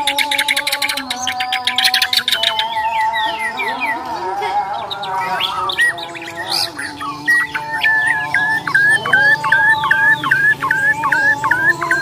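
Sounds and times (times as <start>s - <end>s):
bird singing whistles and warbles: 0.0s - 12.0s.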